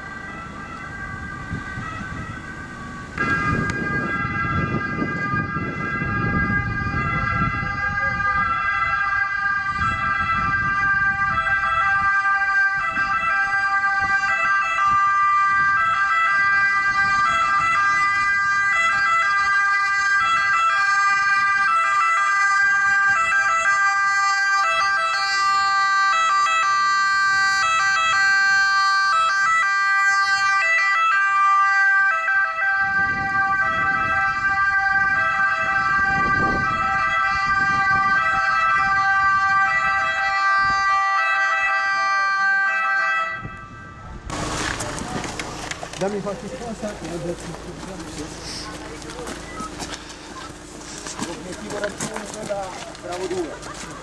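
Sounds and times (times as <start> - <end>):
vehicle low rumble: 0.0 - 42.3, 43.3 - 54.0
ambulance two-tone siren: 0.0 - 54.0.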